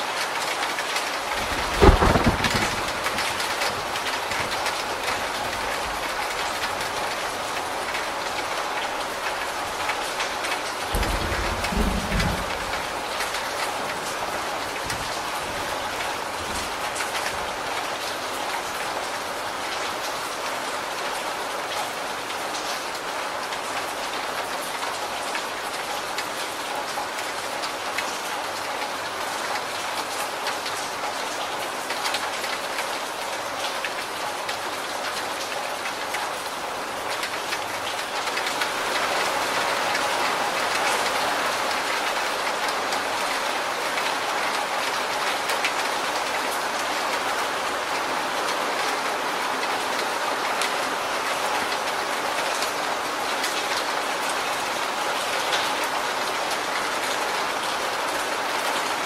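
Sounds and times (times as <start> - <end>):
rain on a corrugated roof: 0.0 - 59.0
water streaming off roof: 0.0 - 59.0.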